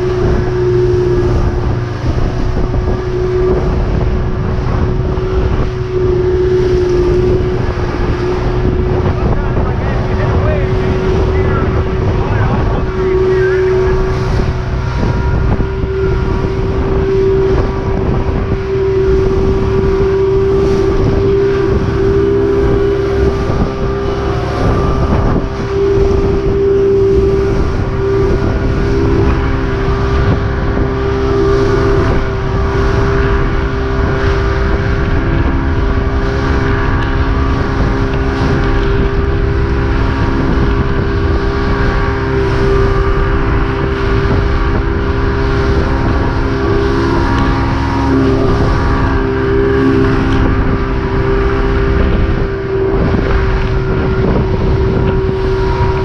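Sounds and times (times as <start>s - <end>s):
hull rushing through water: 0.0s - 56.0s
outboard motor droning: 0.0s - 56.0s
wind on microphone: 0.0s - 56.0s.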